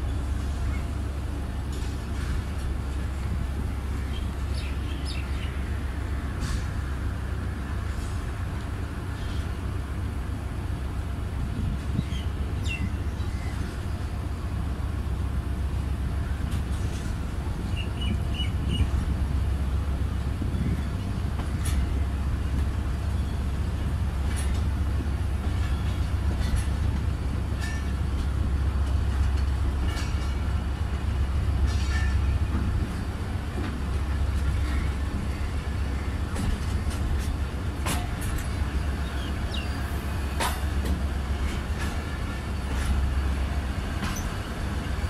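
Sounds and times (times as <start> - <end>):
train low rumble: 0.0 - 45.0.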